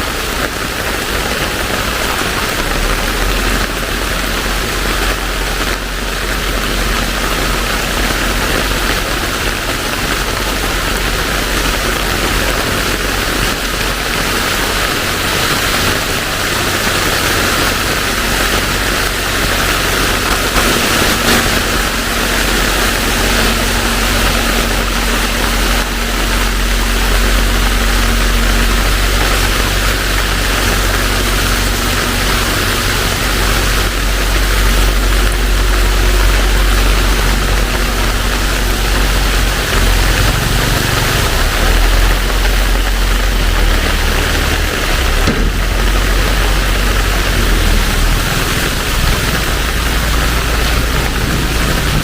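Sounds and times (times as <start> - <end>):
faint steady hum: 0.0 - 52.0
heavy rain pouring: 0.0 - 52.0.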